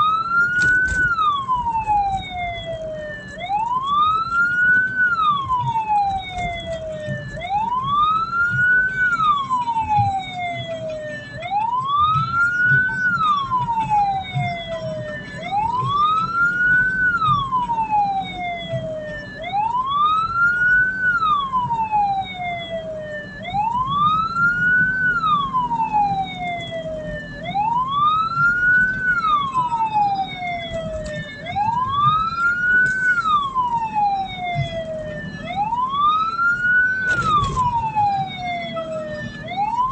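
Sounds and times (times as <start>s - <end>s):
engine and road rumble: 0.0s - 39.9s
siren wailing: 0.0s - 39.9s.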